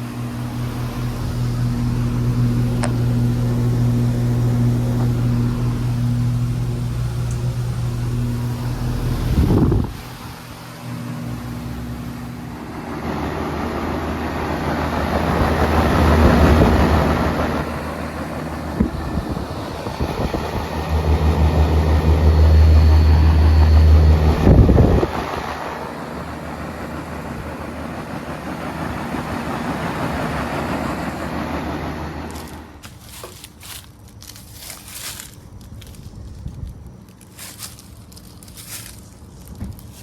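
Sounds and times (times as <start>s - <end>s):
condenser fan air rush: 0.0s - 40.0s
low compressor hum: 0.0s - 40.0s.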